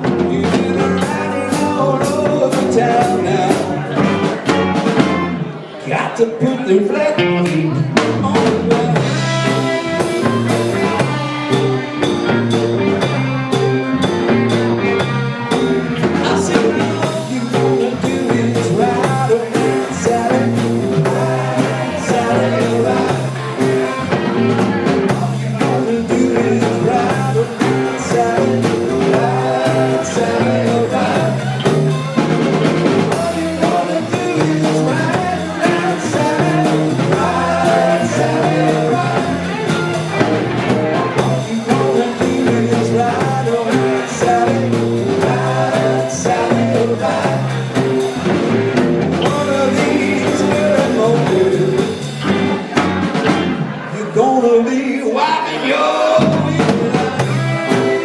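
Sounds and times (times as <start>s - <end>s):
steady drum beat: 0.0s - 5.5s, 7.7s - 53.9s, 56.1s - 58.0s
electric guitar: 0.0s - 5.8s, 6.8s - 54.0s, 55.5s - 58.0s
person singing: 0.0s - 52.8s, 53.6s - 58.0s
bass line: 0.0s - 58.0s.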